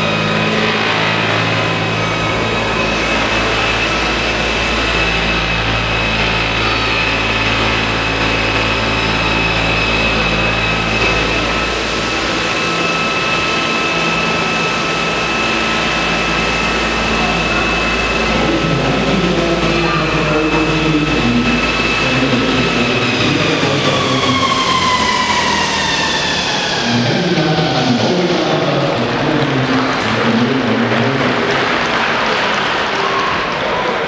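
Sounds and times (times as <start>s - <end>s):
model helicopter rotors whining: 0.0s - 31.1s.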